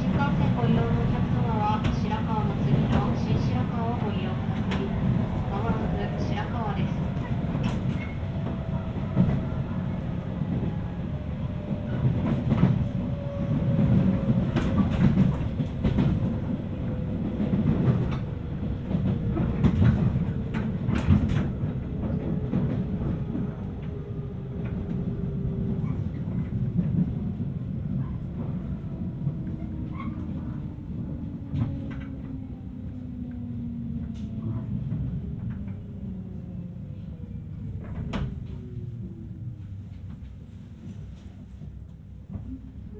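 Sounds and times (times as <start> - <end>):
rail clicks: 0.0 - 42.6
train running rumble: 0.0 - 42.9.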